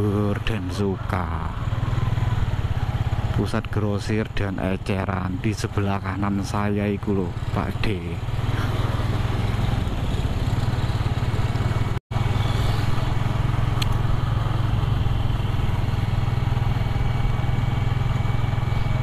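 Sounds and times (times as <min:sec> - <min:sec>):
motorcycle engine cruising: 0:00.0 - 0:19.0
wind and road noise: 0:00.0 - 0:19.0.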